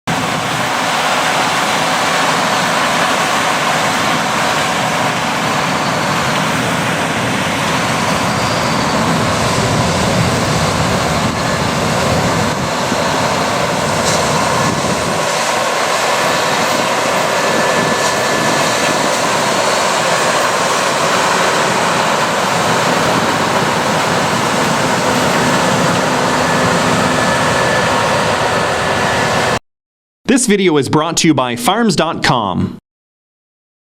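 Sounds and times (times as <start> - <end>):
harvesting machinery engine noise: 0.1 - 29.6.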